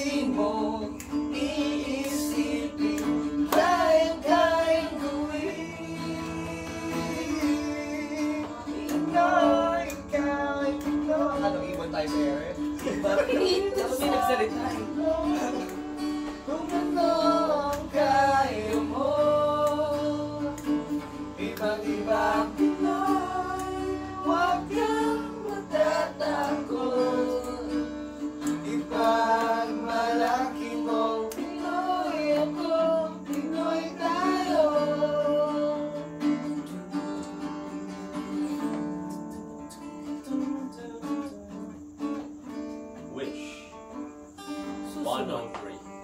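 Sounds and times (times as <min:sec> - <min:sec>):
man singing: 0:00.0 - 0:36.0, 0:40.2 - 0:41.9
acoustic guitar: 0:00.0 - 0:46.0.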